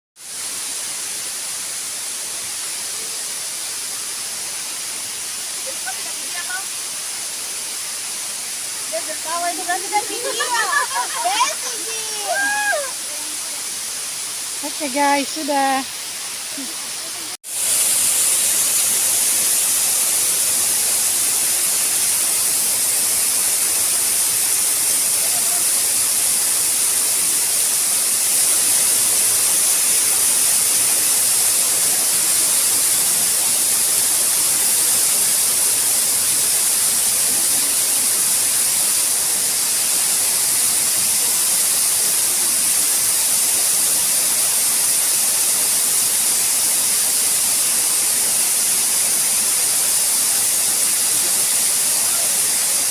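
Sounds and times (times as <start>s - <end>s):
waterfall rushing: 0.2s - 52.9s.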